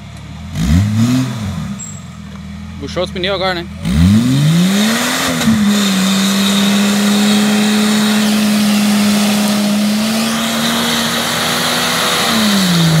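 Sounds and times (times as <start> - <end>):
engine at high revs: 0.4 - 1.9, 2.8 - 13.0.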